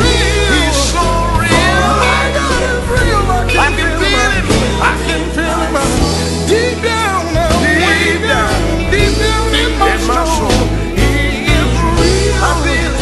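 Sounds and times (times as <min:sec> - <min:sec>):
gospel singing: 0:00.0 - 0:13.0
instrumental backing with bass line: 0:00.0 - 0:13.0.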